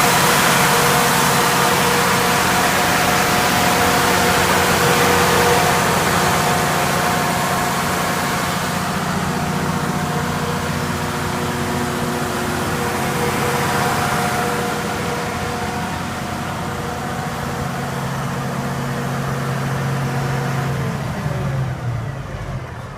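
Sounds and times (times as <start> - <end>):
diesel generator humming: 0.0 - 22.9.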